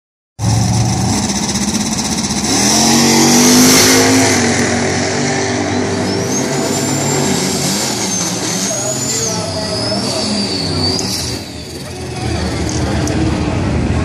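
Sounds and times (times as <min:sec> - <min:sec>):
car engines revving: 0:00.4 - 0:14.0.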